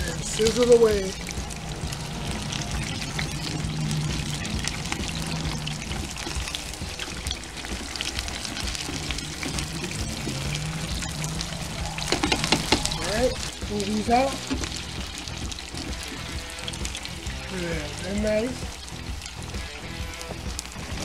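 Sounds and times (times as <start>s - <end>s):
background music with held notes: 0.0s - 21.0s
food deep-frying in hot oil: 0.0s - 21.0s.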